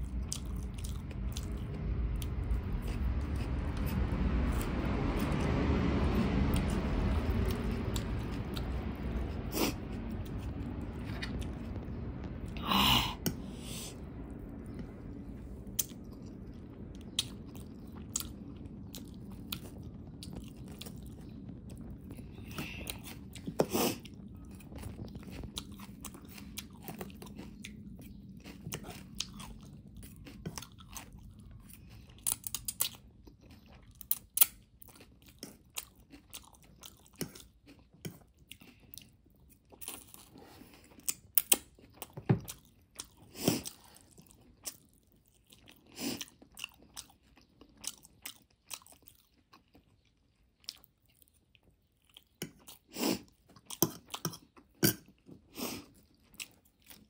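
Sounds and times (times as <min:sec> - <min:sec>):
person chewing noodles: 0:00.0 - 0:05.3, 0:06.3 - 0:57.0
low background rumble: 0:00.0 - 0:57.0.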